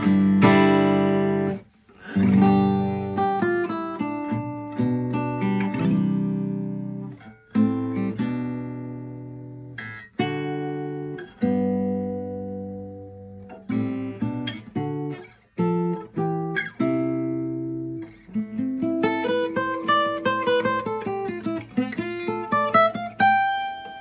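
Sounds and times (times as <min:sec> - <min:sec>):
acoustic guitar chords ringing: 0:00.0 - 0:24.0
picked guitar notes: 0:00.0 - 0:24.0.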